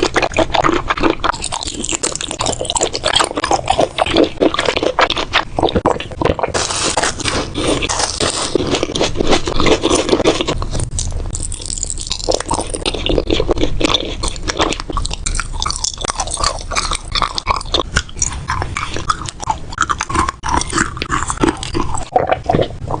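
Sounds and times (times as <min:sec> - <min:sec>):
biting and chewing crunches: 0:00.0 - 0:23.0.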